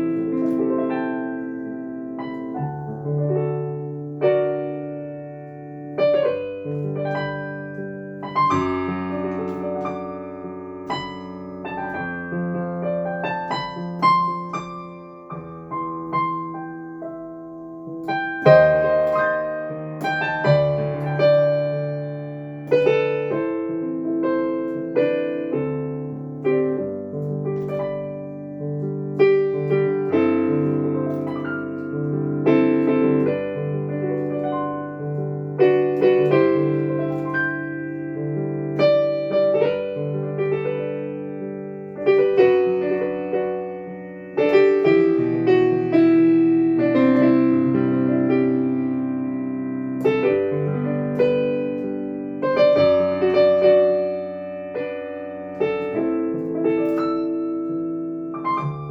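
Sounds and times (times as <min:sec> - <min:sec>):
piano music: 0:00.0 - 0:58.9.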